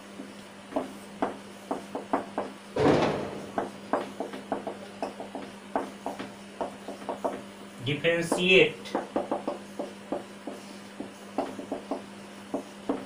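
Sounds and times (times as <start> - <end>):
marker tapping on whiteboard: 0.7 - 2.6, 3.2 - 7.4, 8.2 - 13.0.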